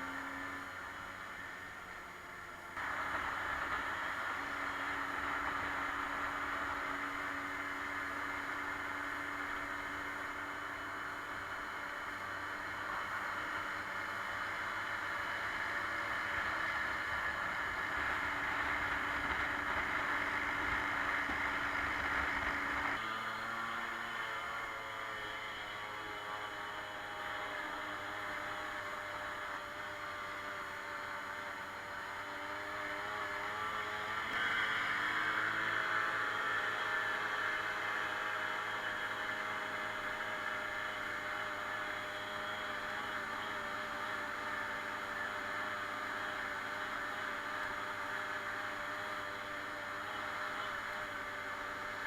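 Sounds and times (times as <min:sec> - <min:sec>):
moped engine running: 0:00.0 - 0:52.0.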